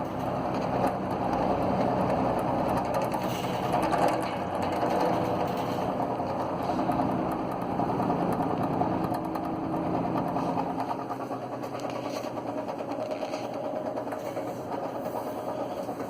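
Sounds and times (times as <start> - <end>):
box fan motor rattling: 0.0 - 16.0.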